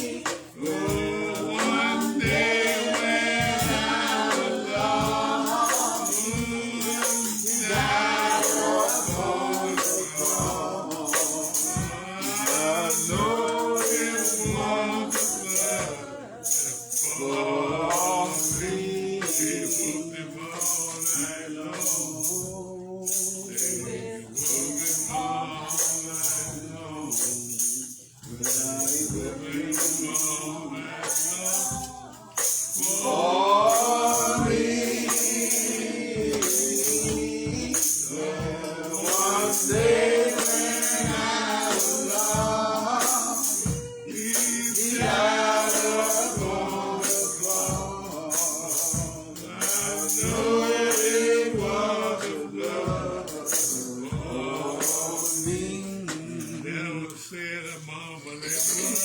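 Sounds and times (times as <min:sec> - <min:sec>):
congregation singing a hymn: 0:00.0 - 0:59.0
tambourine: 0:00.0 - 0:59.0.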